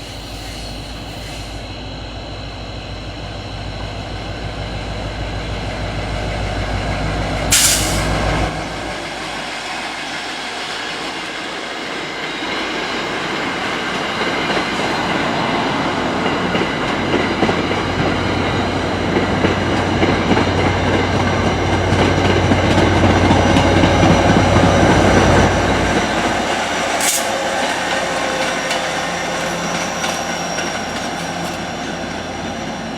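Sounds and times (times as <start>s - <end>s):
train wheels rumbling: 0.0s - 32.9s.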